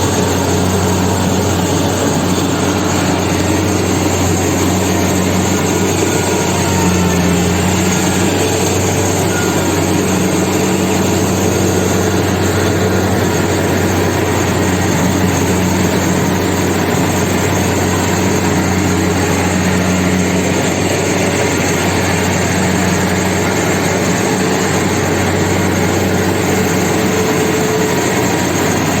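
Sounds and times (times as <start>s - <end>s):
dense mechanical noise: 0.0s - 29.0s
diesel engine droning: 0.0s - 29.0s.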